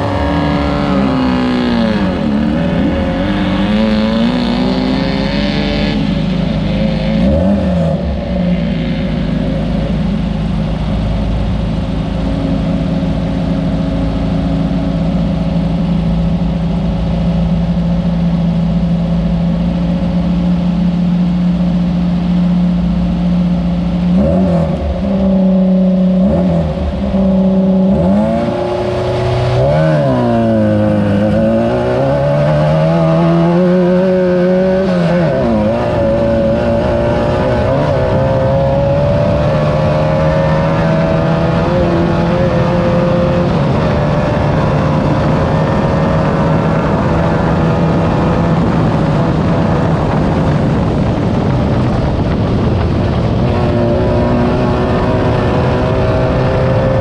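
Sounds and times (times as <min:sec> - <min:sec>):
buggy engine revving hard: 0:00.0 - 0:57.0
rushing noise: 0:00.0 - 0:57.0.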